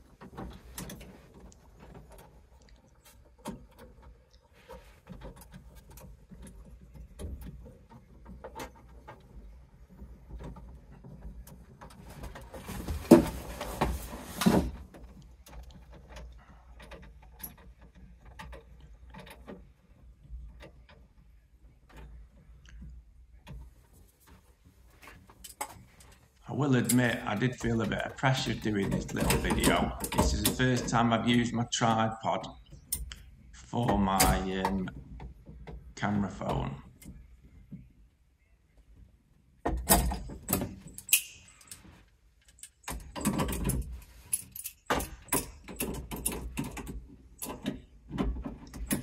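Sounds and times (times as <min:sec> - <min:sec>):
small metallic clicks and knocks: 0:00.0 - 0:12.6, 0:14.8 - 0:37.9, 0:38.8 - 0:49.0.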